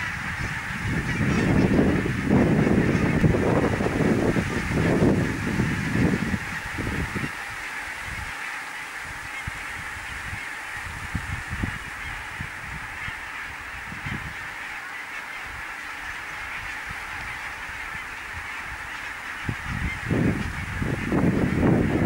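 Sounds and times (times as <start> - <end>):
wind buffeting microphone: 0.0 - 8.3, 9.0 - 14.7, 15.4 - 22.0
flock of geese calling: 0.0 - 22.0.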